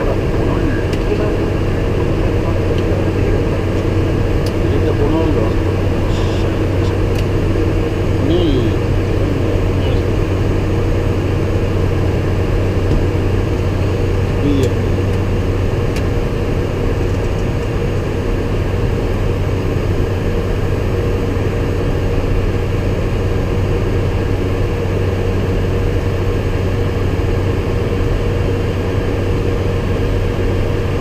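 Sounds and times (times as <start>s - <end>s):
airliner engine and airflow noise: 0.0s - 31.0s
low hum: 0.0s - 31.0s.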